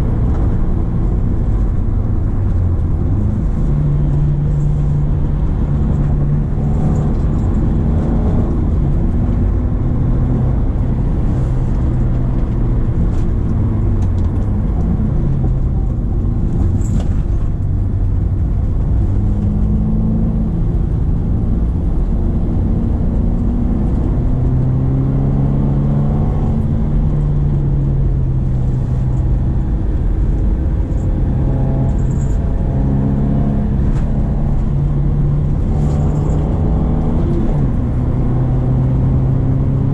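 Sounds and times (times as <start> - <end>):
car engine pulling uphill: 0.0 - 39.9.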